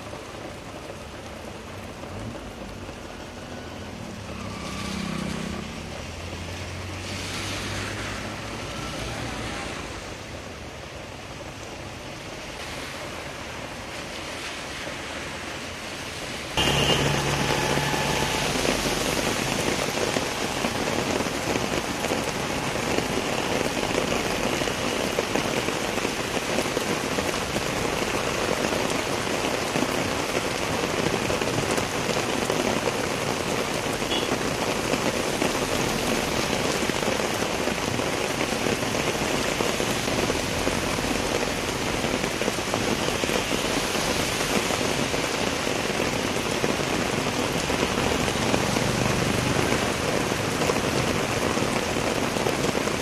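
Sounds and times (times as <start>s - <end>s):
rain falling on wet road: 0.0s - 53.0s.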